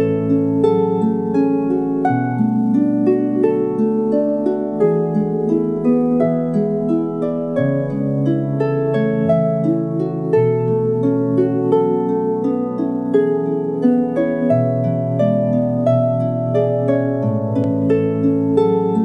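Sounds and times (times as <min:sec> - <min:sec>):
lyre music: 0:00.0 - 0:19.0.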